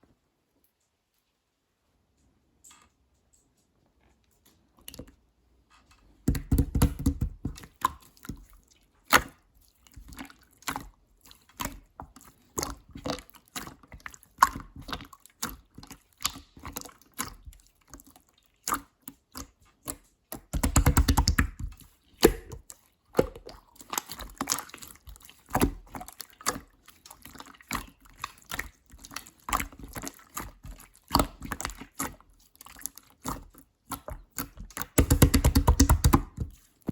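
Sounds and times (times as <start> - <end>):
slime squishing with wet clicks: 2.5 - 36.9
crackling slime squelches: 4.4 - 36.9.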